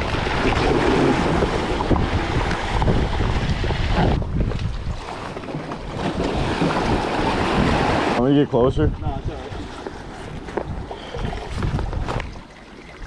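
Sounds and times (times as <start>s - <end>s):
surf washing over rocks: 0.0s - 12.2s
wind buffeting microphone: 0.0s - 13.0s.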